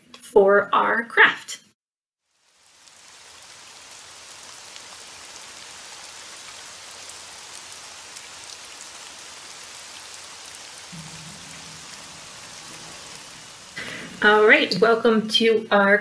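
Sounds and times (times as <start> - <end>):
rain hissing: 2.2 - 16.0.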